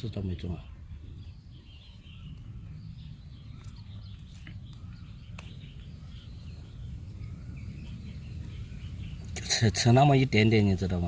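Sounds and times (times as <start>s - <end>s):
small birds chirping: 0.0s - 11.0s
steady low rumble: 0.1s - 11.0s.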